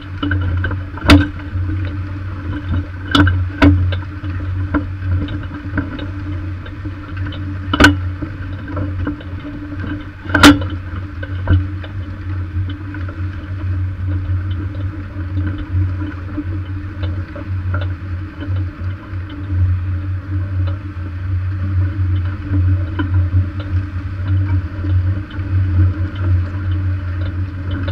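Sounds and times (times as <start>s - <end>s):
light ticking and rattling: 0.0s - 27.9s.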